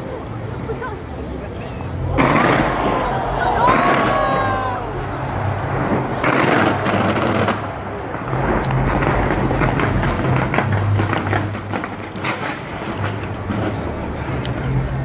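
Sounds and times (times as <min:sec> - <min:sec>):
fireworks bursting and crackling: 0:01.8 - 0:15.0.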